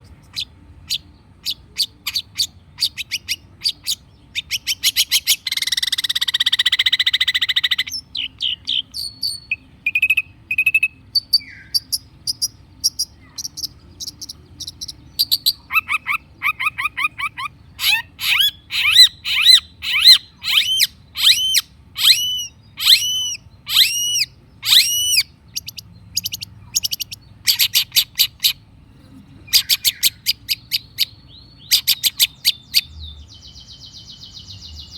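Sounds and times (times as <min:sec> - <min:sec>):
shrike singing: 0:00.1 - 0:34.9.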